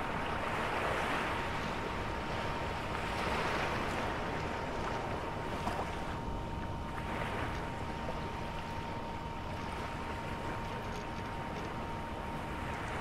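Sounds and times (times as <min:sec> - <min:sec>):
constant high-pitched tone: 0:00.0 - 0:13.0.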